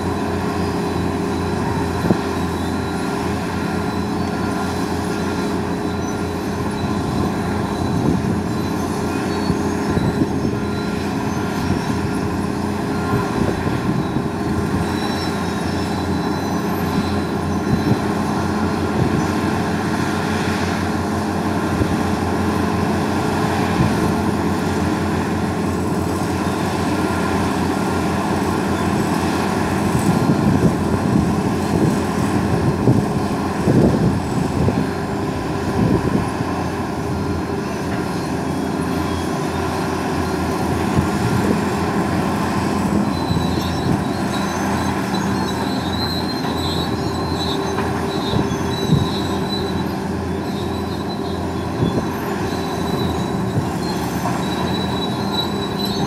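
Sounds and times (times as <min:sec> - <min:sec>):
excavator diesel engines droning: 0:00.0 - 0:56.0.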